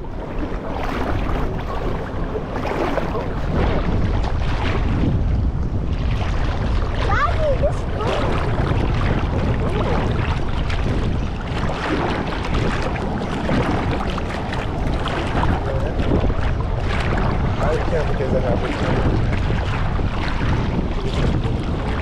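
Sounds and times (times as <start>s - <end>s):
seawater sloshing and lapping: 0.0s - 22.0s
wind rumble on microphone: 0.0s - 22.0s.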